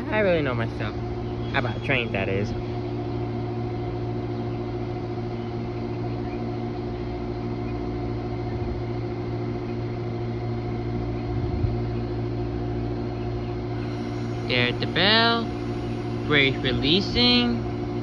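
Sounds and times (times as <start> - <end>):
stopped train humming: 0.0 - 18.0.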